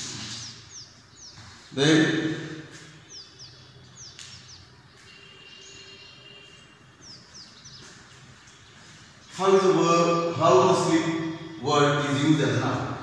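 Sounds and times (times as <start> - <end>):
faint bird chirps: 0.0 - 9.4, 10.0 - 12.4.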